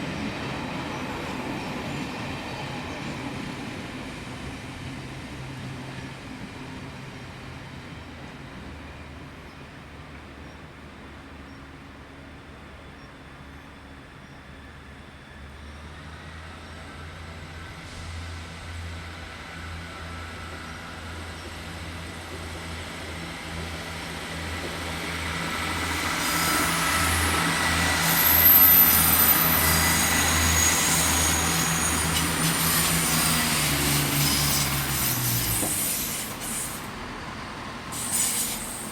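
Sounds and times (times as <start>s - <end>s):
train wheels squealing on rails: 0.0s - 38.9s.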